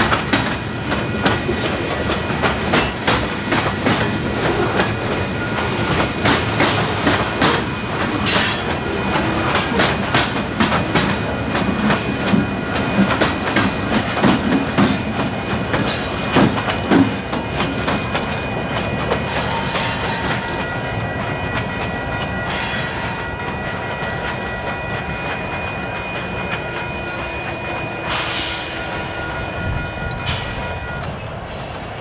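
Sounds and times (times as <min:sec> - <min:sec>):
train wheels clicking over rails: 0:00.0 - 0:28.8.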